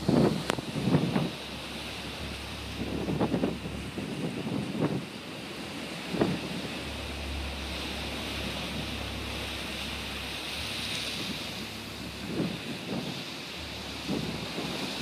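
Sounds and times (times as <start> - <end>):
sea waves breaking: 0.0 - 15.0
strong wind: 0.0 - 15.0
wind buffeting microphone: 0.0 - 15.0.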